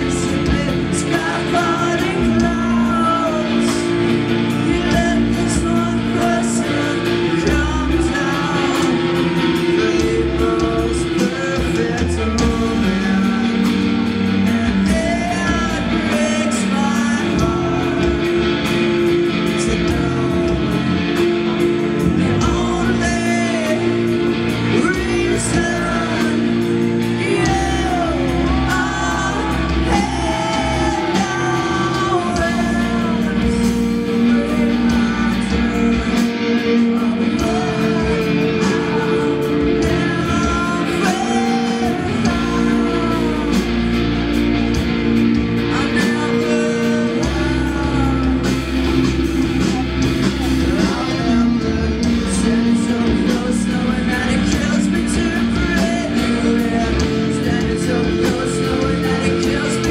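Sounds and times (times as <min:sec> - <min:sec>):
electric guitar and bass: 0:00.0 - 0:59.9
live rock band playing: 0:00.0 - 0:59.9
singer through pa: 0:00.0 - 0:59.9.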